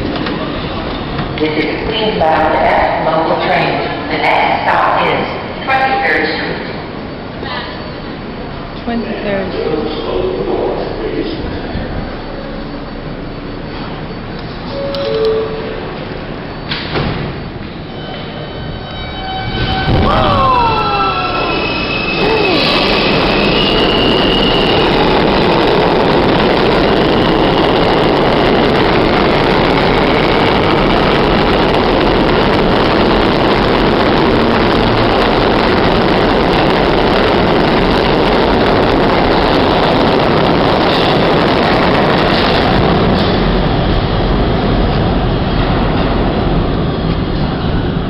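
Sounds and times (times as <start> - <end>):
subway train wheels rumbling: 0.0 - 48.0
high whine: 6.8 - 48.0.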